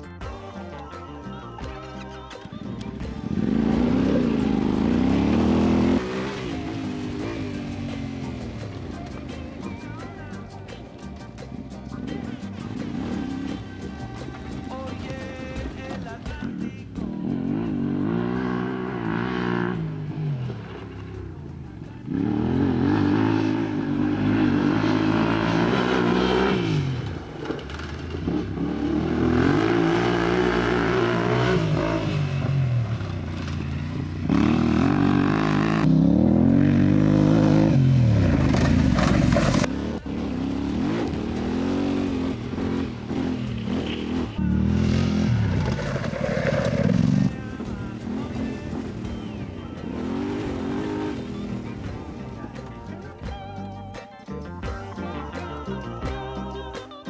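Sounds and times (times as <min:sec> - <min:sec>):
motorcycle engine revving: 0:02.5 - 0:53.5.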